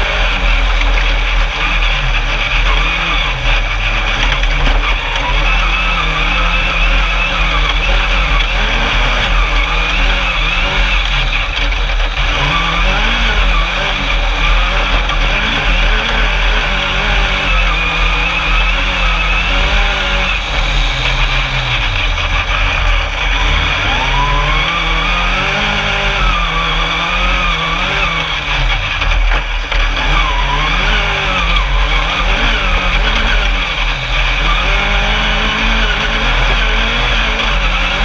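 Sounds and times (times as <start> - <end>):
buggy engine revving: 0.0 - 38.0
steady rushing noise: 0.0 - 38.0.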